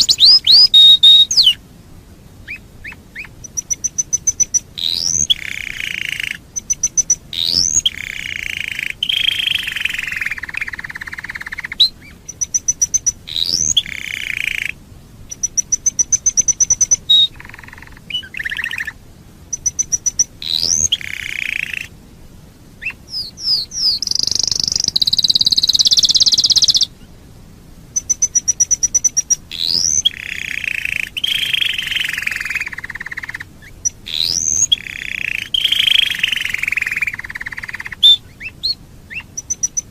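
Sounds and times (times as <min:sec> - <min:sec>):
canary singing: 0:00.0 - 0:01.6, 0:02.4 - 0:21.9, 0:22.8 - 0:27.0, 0:27.9 - 0:39.9.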